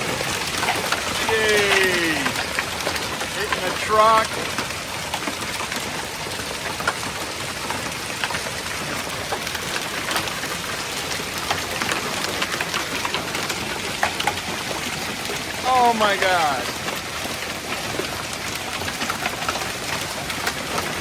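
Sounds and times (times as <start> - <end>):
hail hissing: 0.0 - 21.0
hailstones cracking on hard surfaces: 0.0 - 21.0.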